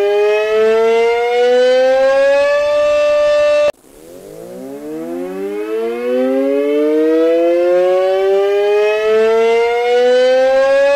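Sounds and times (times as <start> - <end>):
warning siren winding up: 0.0 - 10.9.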